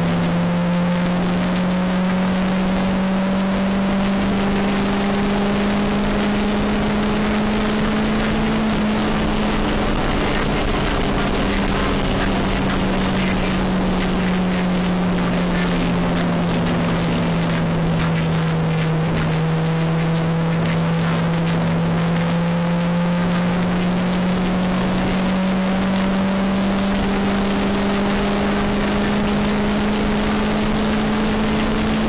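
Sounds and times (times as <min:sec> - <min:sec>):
car engine droning: 0:00.0 - 0:32.0
road and wind noise: 0:00.0 - 0:32.0.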